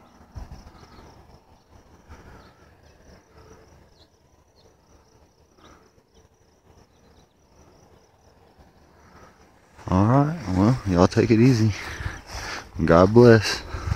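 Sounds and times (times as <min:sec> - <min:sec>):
high-pitched insect trill: 0:00.0 - 0:13.9.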